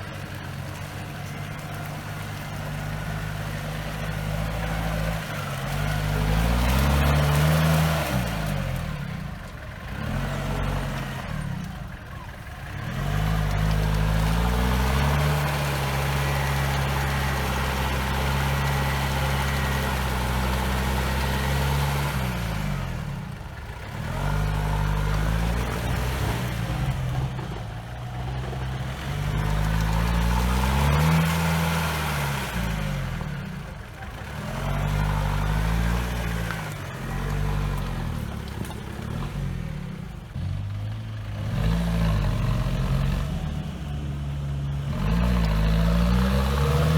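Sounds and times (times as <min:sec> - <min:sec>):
off-road engine revving: 0:00.0 - 0:46.9.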